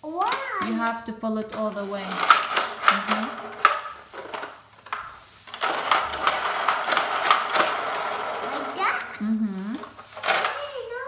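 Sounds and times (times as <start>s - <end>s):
toy car spinning whirring rattle: 0.0s - 0.8s, 1.6s - 11.0s.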